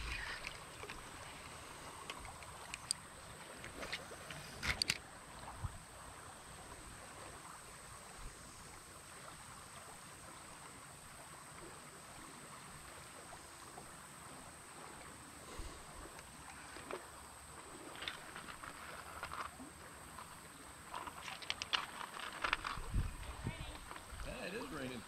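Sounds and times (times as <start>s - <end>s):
faint running river water: 0.0s - 25.0s.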